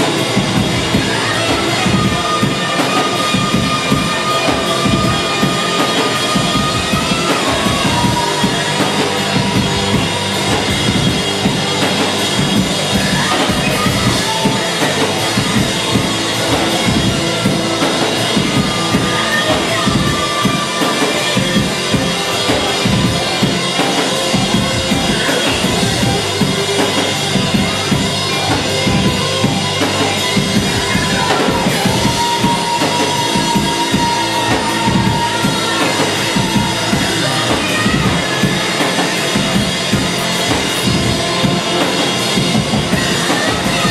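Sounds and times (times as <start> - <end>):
drum kit beat: 0.0 - 43.9
live band playing loud music: 0.0 - 43.9.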